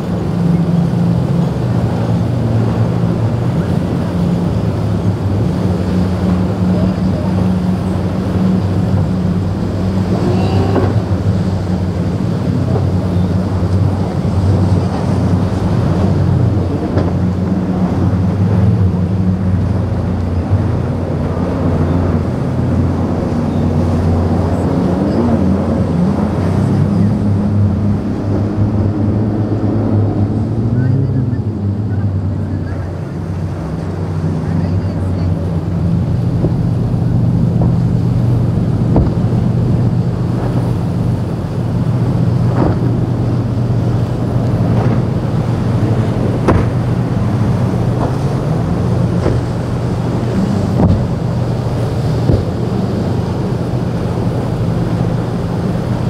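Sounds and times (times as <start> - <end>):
outboard engines droning: 0.0 - 56.0
wind and rushing water: 0.0 - 56.0.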